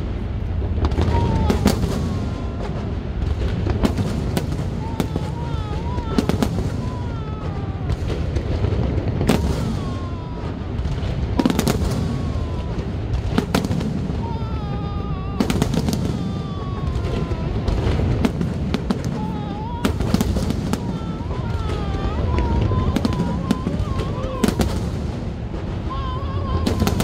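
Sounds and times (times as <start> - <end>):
fireworks bangs: 0.0 - 27.0
rumble of distant explosions: 0.0 - 27.0.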